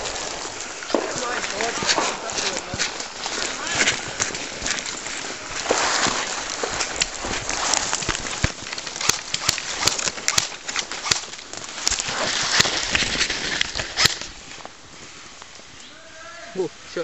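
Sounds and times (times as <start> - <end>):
twigs snapping: 0.0 - 14.7
footsteps through undergrowth: 0.0 - 16.4
leaves and branches rustling: 0.0 - 17.0.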